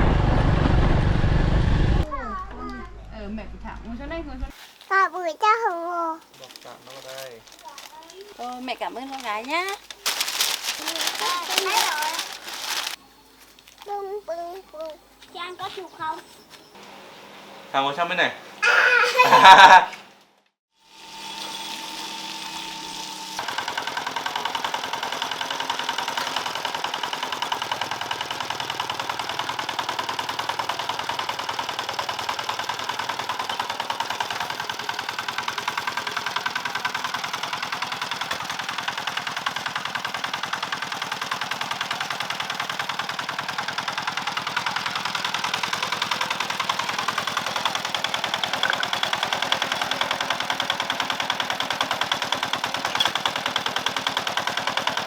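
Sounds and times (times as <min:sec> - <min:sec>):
small engine running: 0:06.2 - 0:17.0, 0:20.8 - 0:55.0.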